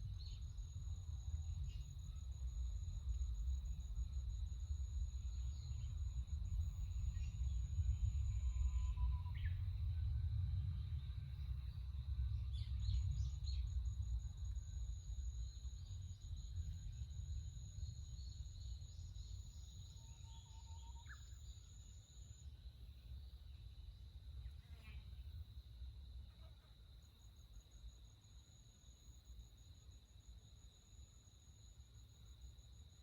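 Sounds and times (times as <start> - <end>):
high insect drone: 0.0 - 9.8, 10.8 - 25.8, 26.5 - 33.0.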